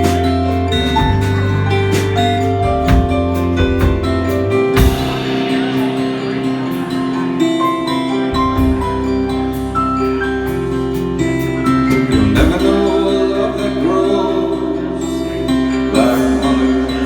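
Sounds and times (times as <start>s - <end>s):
bass: 0.0s - 17.0s
guitar chords: 0.0s - 17.0s.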